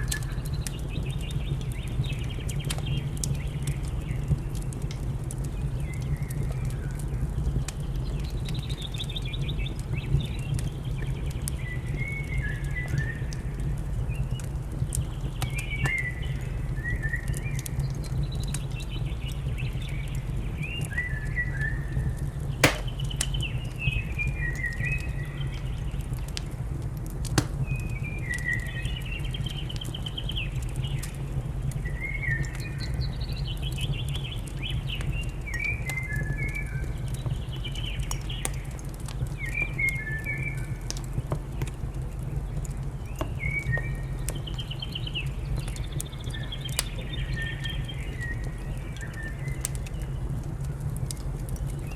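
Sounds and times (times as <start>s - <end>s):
wood fire crackling and popping: 0.0s - 11.9s, 12.5s - 16.8s, 17.4s - 51.9s.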